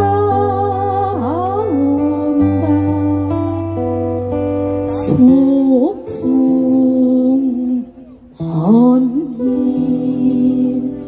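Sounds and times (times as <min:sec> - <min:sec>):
person singing long notes: 0:00.0 - 0:04.0, 0:04.8 - 0:11.0
acoustic guitar: 0:00.0 - 0:11.0.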